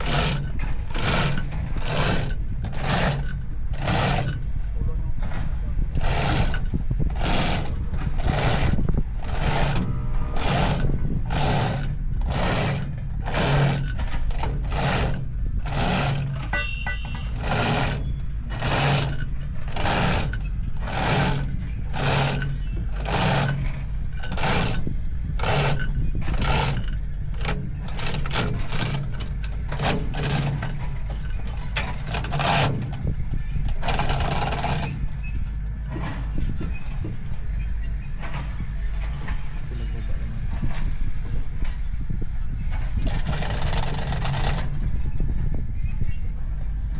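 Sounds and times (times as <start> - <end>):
low steady rumble: 0.0 - 46.9.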